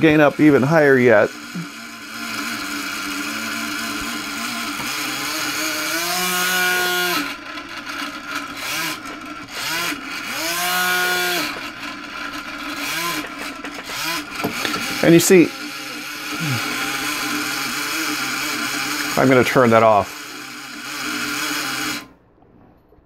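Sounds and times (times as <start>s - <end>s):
small motor and propeller whirring: 0.0s - 22.1s.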